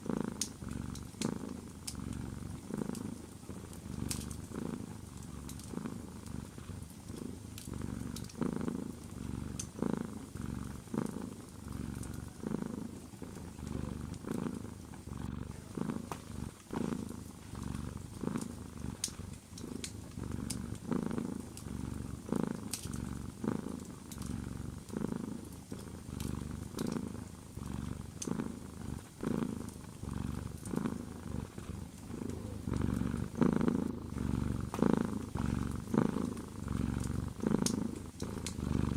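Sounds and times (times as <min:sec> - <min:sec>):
cat purring: 0:00.0 - 0:38.9
faint wood fire crackles: 0:00.0 - 0:38.9.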